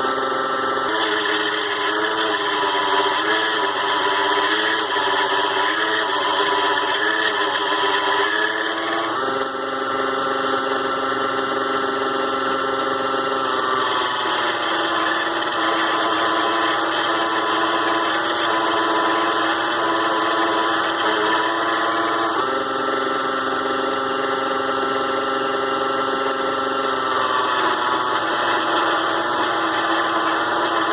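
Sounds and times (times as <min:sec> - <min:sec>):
lathe motor whining: 0:00.0 - 0:30.9.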